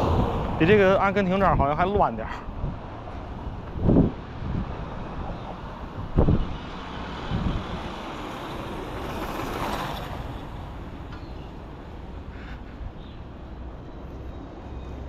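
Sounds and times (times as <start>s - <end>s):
steady traffic rush: 0.0s - 15.0s
vehicle passing: 2.5s - 15.0s.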